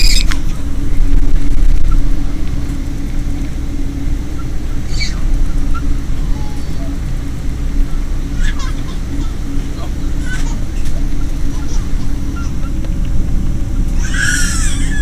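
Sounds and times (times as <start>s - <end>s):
airliner rumble and hum: 0.0s - 15.0s.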